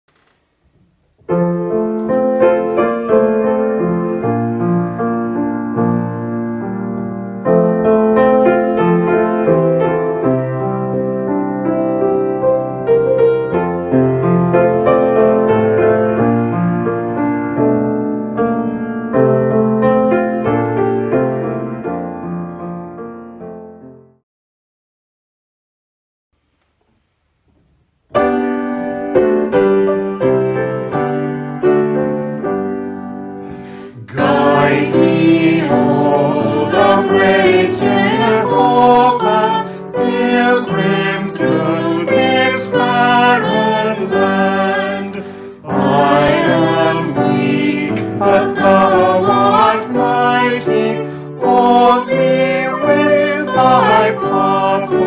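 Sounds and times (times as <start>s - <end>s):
piano playing held chords: 1.3s - 24.1s, 28.1s - 55.0s.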